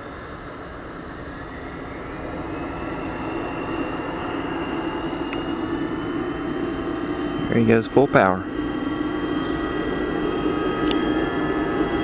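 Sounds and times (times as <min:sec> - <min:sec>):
jet engines spooling up: 0:00.0 - 0:12.0
rising turbine whine: 0:00.0 - 0:12.0.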